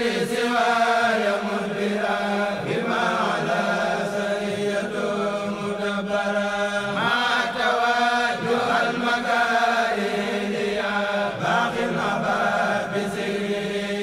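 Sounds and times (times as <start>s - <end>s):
person chanting religious verse: 0.0s - 14.0s.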